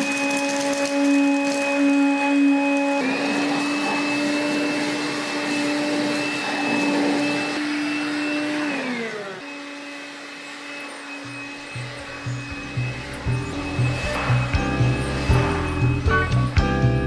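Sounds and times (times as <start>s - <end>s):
cordless vacuum cleaner whining: 0.0s - 17.0s.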